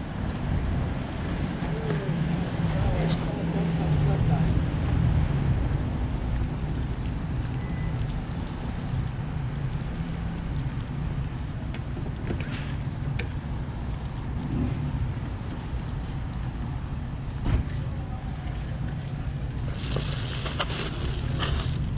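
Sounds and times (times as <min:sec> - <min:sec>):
low engine rumble: 0:00.0 - 0:21.9.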